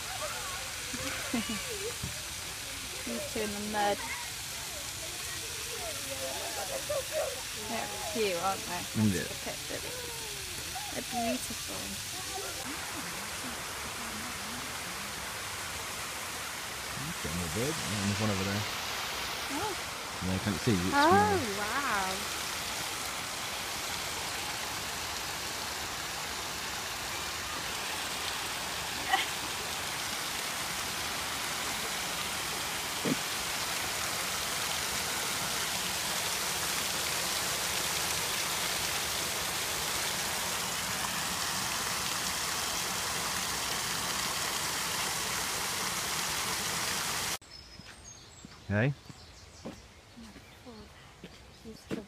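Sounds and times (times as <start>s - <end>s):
waterfall splashing into pool: 0.0s - 47.4s.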